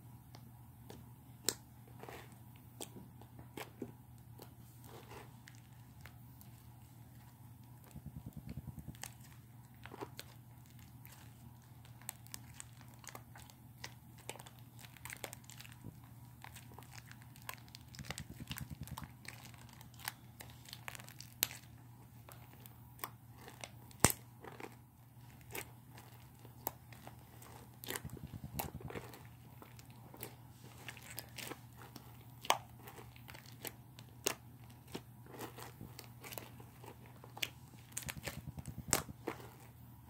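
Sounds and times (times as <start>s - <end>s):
steady low hum: 0.0s - 40.0s
slime squished by hand: 0.8s - 39.8s.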